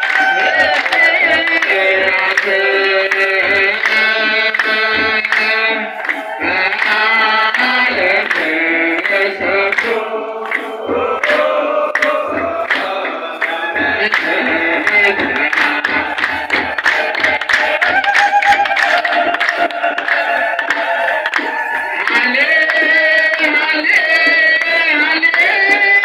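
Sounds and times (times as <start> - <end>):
low drum beats: 0.0 - 24.8
men chanting in chorus: 0.0 - 26.0.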